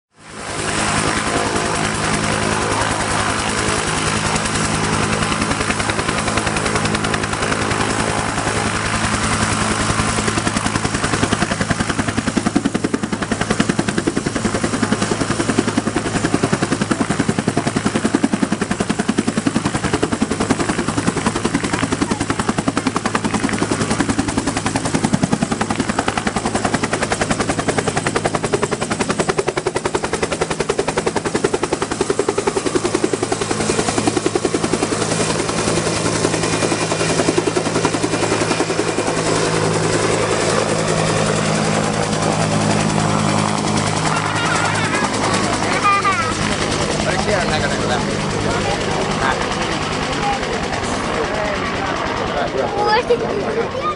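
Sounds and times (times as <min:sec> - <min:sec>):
helicopter rotor blade slap: 0:00.4 - 0:53.9.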